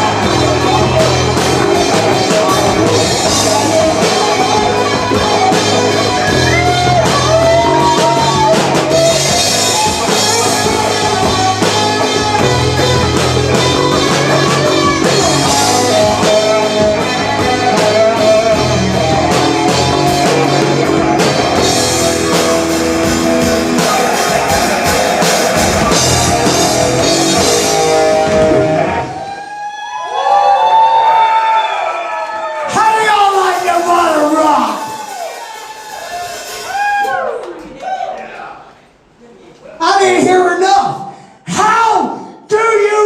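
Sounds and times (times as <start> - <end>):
live rock band playing: 0.0 - 30.1, 32.7 - 37.7.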